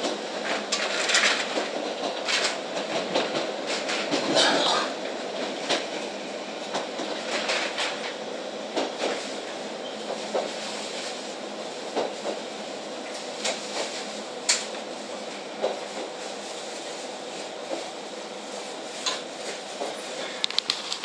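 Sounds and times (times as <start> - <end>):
railcar rumble: 0.0 - 21.0.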